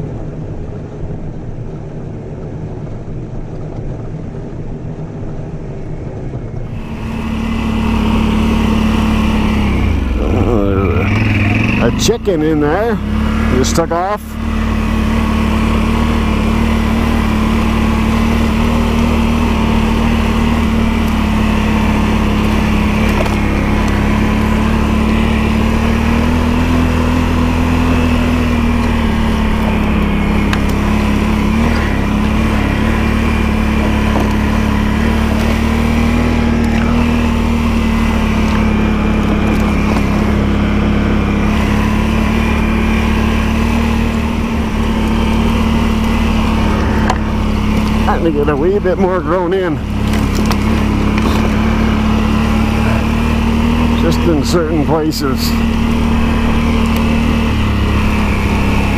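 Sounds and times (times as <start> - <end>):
quad bike engine running: 6.2 - 58.9.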